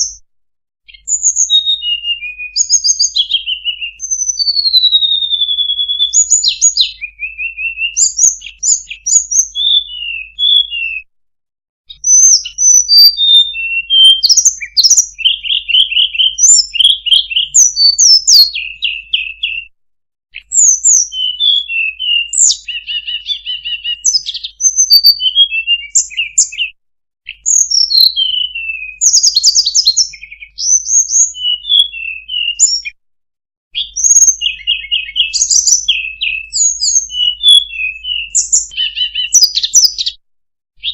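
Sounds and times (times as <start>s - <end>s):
bird song with whistled notes: 0.0s - 11.1s, 11.9s - 33.0s, 33.7s - 40.2s.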